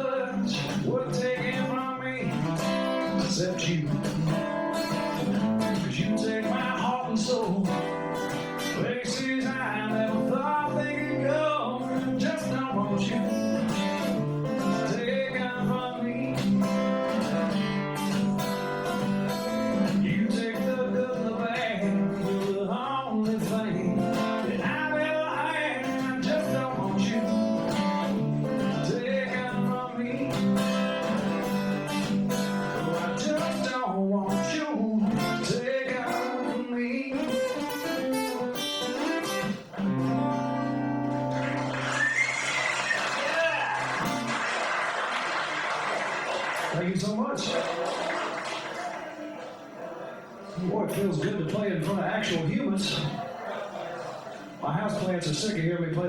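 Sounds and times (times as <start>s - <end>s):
acoustic guitar playing: 0.0s - 46.7s.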